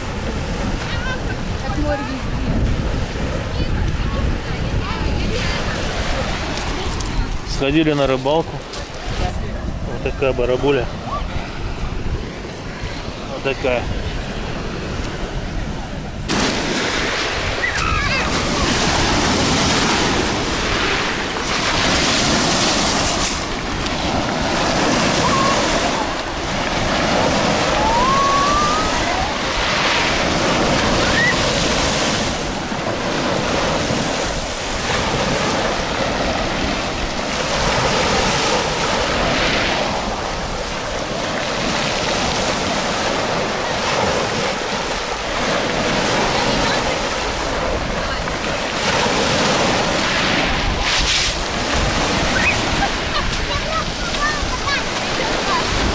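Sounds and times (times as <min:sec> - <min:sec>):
waves breaking on pebble beach: 0:00.0 - 0:55.9.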